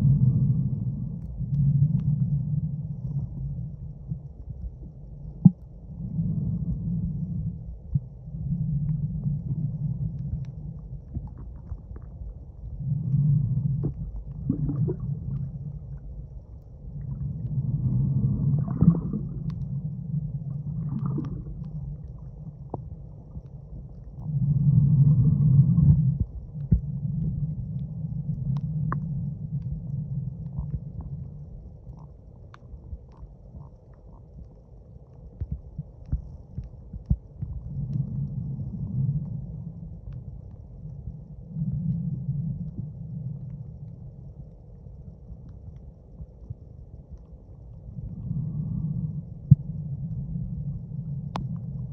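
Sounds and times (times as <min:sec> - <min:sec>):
underwater rumble of moving water: 0:00.0 - 0:51.9.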